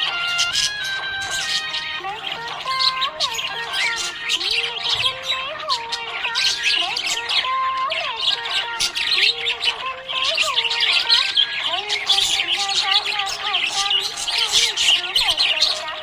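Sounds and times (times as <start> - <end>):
budgerigars chirping and warbling: 0.0 - 16.0.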